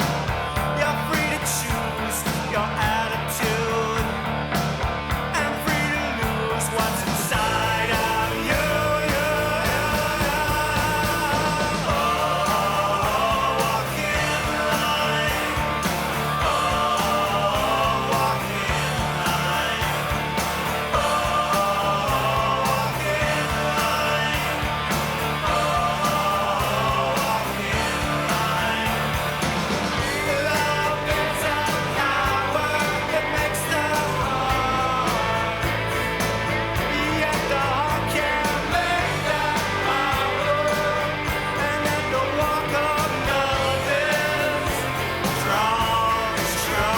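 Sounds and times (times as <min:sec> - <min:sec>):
rock band playing: 0:00.0 - 0:46.9.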